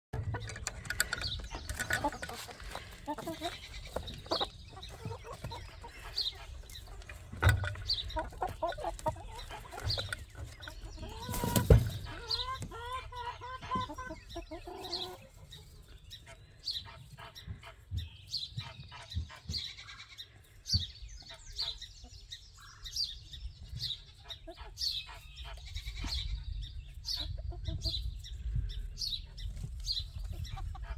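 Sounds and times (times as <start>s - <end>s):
chickens clucking: 0.1s - 30.9s.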